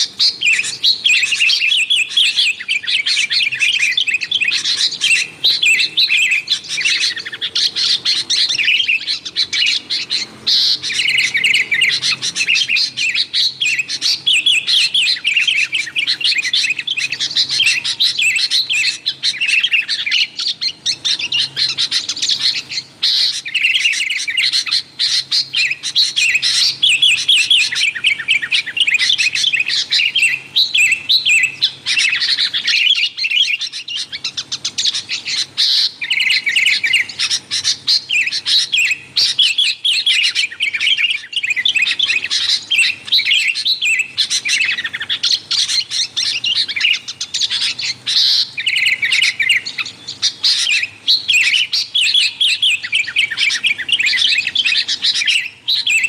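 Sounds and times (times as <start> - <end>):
bulbul chirping and whistling: 0.0 - 56.0.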